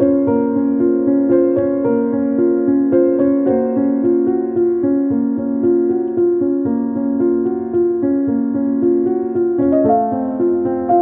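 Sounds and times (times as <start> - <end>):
keyboard playing notes: 0.0 - 11.0.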